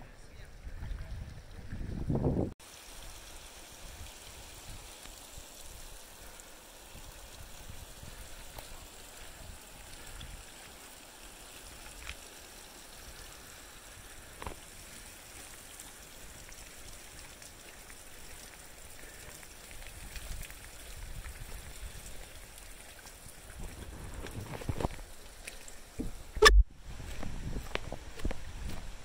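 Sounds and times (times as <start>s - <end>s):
creek trickling over rocks: 0.3s - 29.0s.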